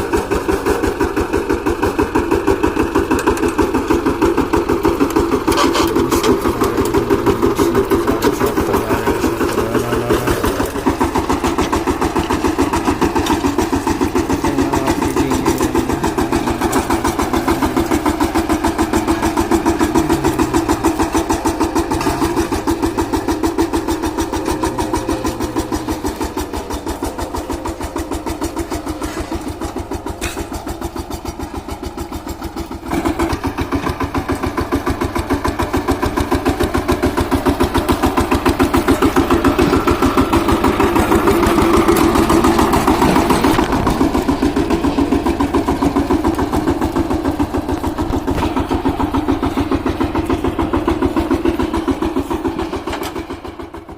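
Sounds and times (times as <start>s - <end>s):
diesel engine thudding: 0.0s - 53.9s.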